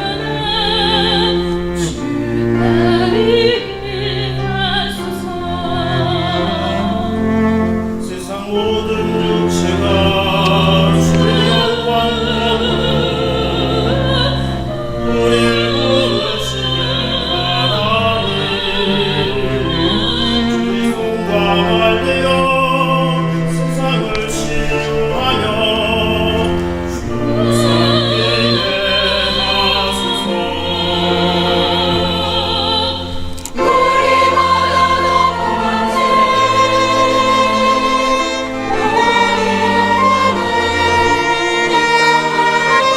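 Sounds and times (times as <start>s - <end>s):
choir singing with vibrato: 0.0s - 42.9s
low held accompaniment notes: 0.0s - 42.9s.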